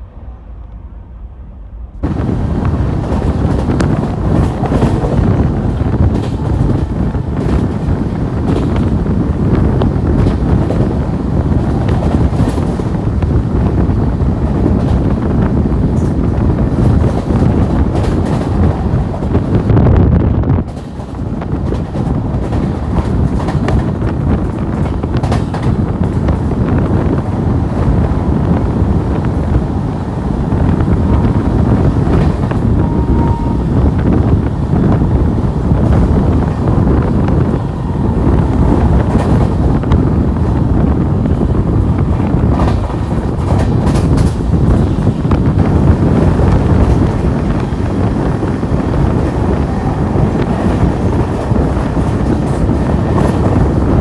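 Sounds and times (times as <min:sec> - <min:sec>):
train rumbling on track: 0:00.0 - 0:54.0
wind buffeting microphone: 0:00.0 - 0:54.0.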